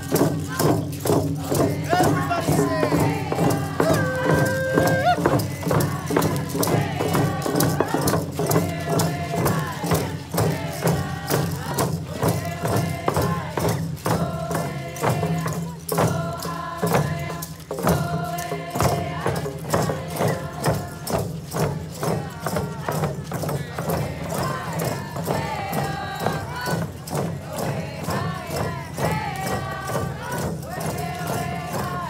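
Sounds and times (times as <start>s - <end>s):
group of voices singing: 0.0s - 32.0s
hand drums beating: 0.0s - 32.0s
shaker rattles: 0.0s - 32.0s.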